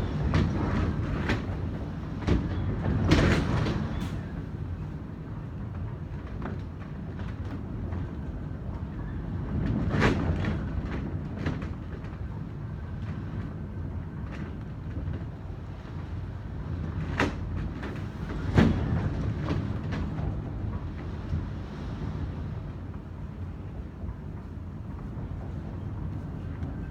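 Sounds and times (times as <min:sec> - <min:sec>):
wind rumble: 0:00.0 - 0:26.9.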